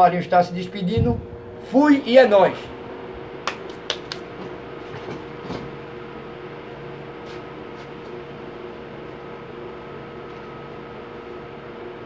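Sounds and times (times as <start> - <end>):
electric hum and hiss: 0.0 - 12.0.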